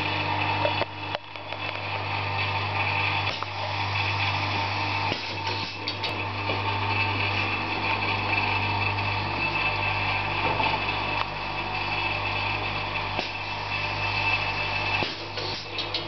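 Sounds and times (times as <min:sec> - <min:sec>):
sharpening machine motor hum: 0:00.0 - 0:16.0.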